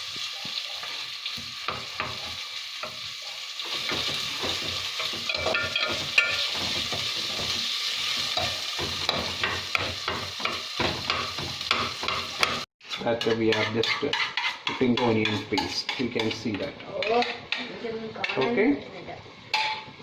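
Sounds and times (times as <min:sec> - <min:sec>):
paste sizzling in hot oil: 0:00.0 - 0:20.0
utensil scraping wok: 0:00.0 - 0:20.0.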